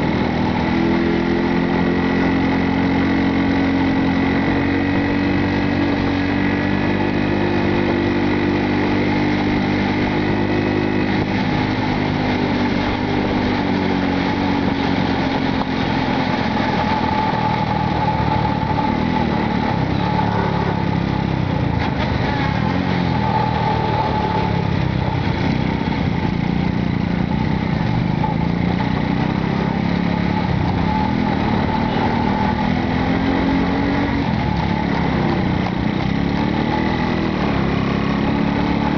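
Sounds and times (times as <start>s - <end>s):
motorcycle engine running: 0.0s - 38.9s
road noise: 0.0s - 38.9s.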